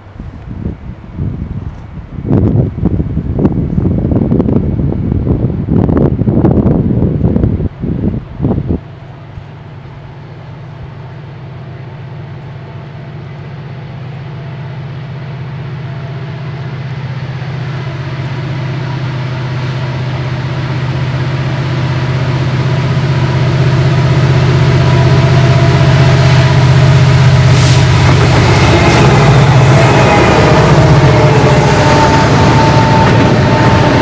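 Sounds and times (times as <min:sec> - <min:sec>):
diesel locomotive engine humming: 0:00.0 - 0:34.0.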